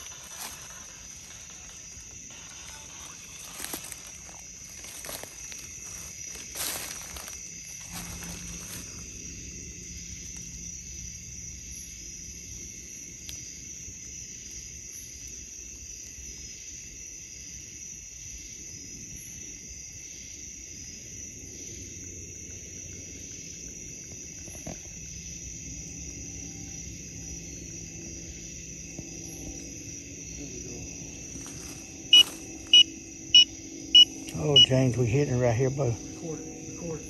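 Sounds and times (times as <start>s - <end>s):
night insects chirring: 0.0s - 37.0s.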